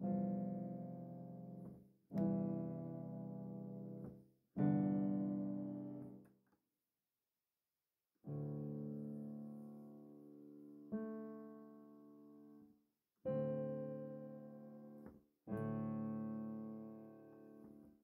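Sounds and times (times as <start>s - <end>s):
slow piano chords: 0.0s - 6.2s, 8.3s - 18.0s.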